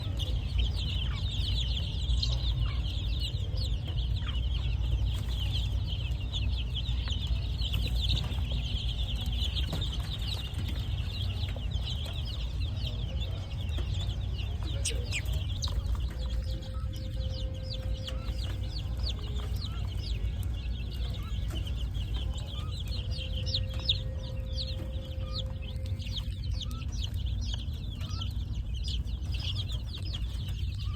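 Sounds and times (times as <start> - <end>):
baby chicks peeping: 0.0 - 30.9
steady low hum: 0.0 - 30.9.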